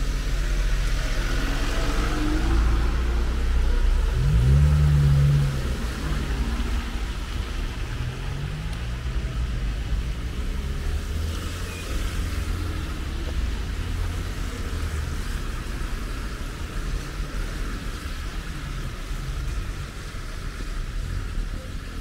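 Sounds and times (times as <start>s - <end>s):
car engines rumbling: 0.0s - 22.0s
rain on wet road: 0.0s - 22.0s.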